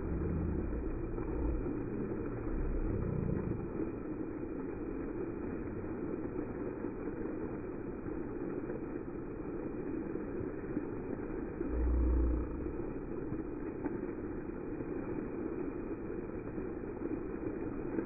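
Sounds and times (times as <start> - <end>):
low rumble: 0.0 - 14.8
fountain water splashing: 0.0 - 18.0.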